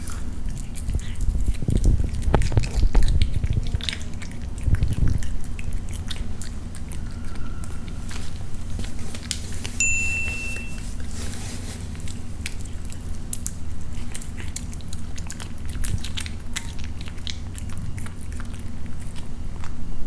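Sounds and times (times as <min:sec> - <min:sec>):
cat chewing meat: 0:00.0 - 0:09.8, 0:10.7 - 0:20.0.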